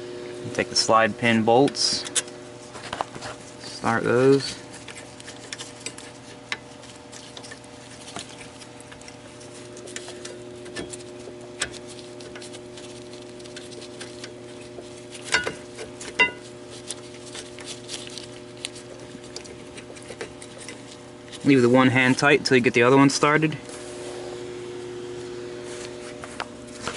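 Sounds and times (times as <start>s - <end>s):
faint hum: 0.0s - 26.9s.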